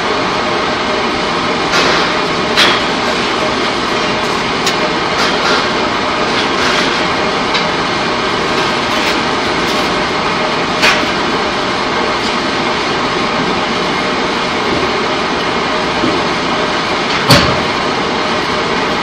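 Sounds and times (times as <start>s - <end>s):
loud machinery din: 0.0s - 19.0s.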